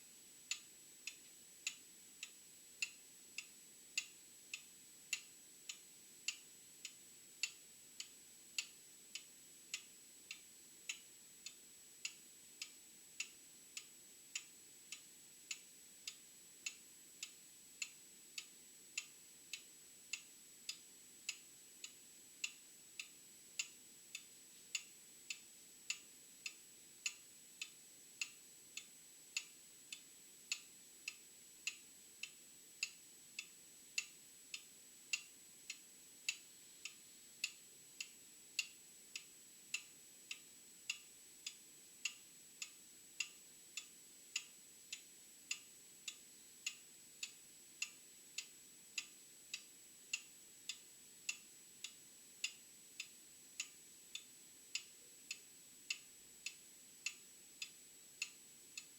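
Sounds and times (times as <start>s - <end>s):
clock ticking: 0.5s - 58.9s.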